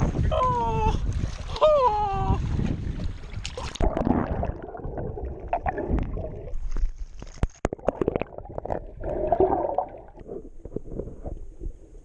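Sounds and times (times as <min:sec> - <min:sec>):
seawater gurgling and sloshing: 0:00.0 - 0:12.0.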